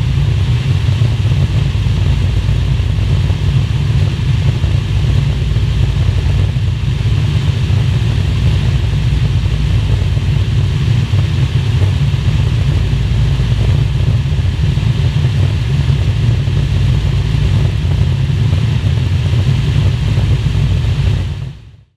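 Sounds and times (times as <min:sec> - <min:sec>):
aircraft engine droning: 0:00.0 - 0:21.7.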